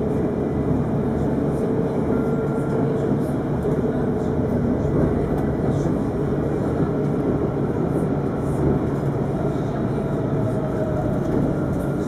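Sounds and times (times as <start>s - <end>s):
tram wheels rolling on rail: 0.0s - 12.0s.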